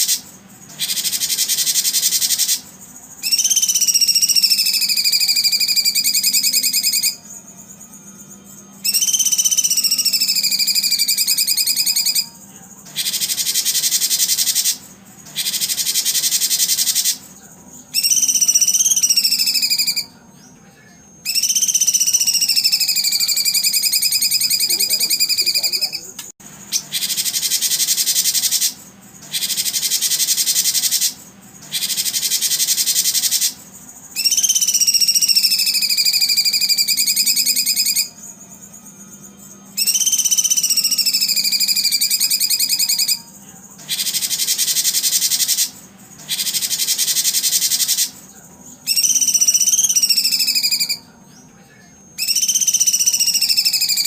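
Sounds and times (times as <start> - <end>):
songbird whistled phrases: 0.0 - 7.4, 8.8 - 20.6, 21.2 - 38.8, 39.7 - 48.2, 48.8 - 51.5, 52.2 - 54.0
buzzy rapid bird trills: 0.0 - 54.0.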